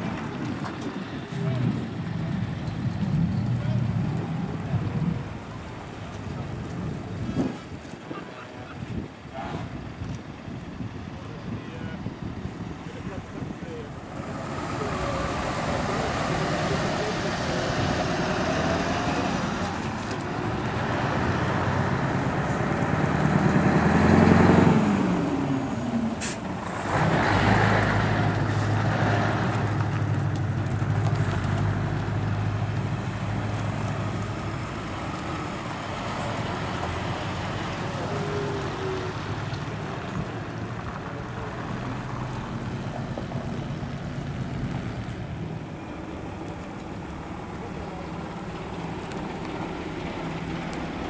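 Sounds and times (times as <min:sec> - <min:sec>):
diesel trucks driving past: 0:00.0 - 0:51.0.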